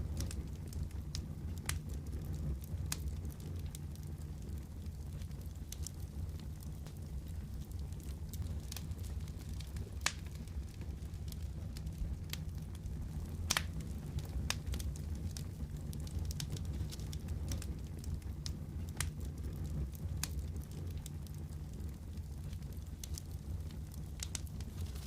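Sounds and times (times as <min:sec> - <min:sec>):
fire popping: 0:00.0 - 0:25.0
low rumble of flames: 0:00.0 - 0:25.0.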